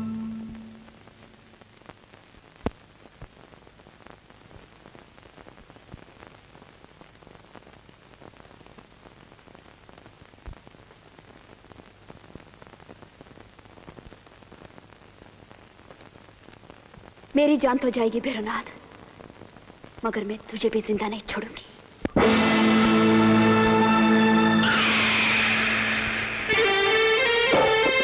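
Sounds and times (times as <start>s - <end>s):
faint crackling static hiss: 0.0s - 28.0s.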